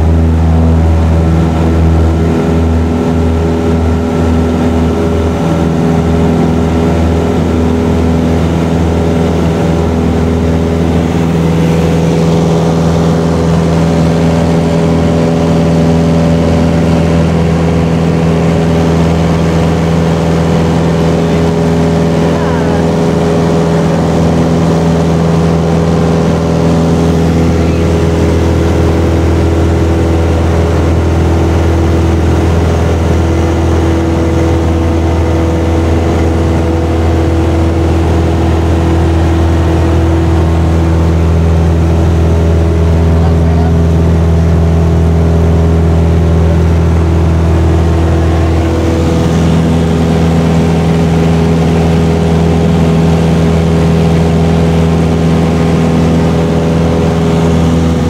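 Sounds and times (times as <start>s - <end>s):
airplane engine drone in cabin: 0.0s - 58.0s.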